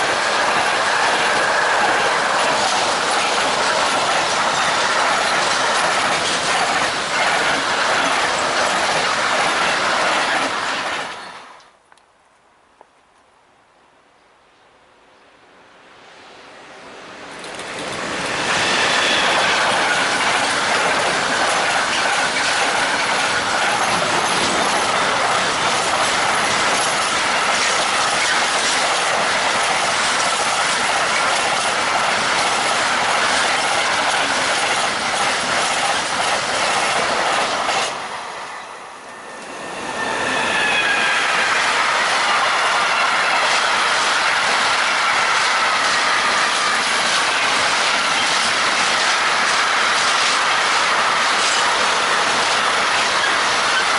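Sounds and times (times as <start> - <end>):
freight train wheels rushing on rails: 0.0 - 11.8, 16.4 - 53.9.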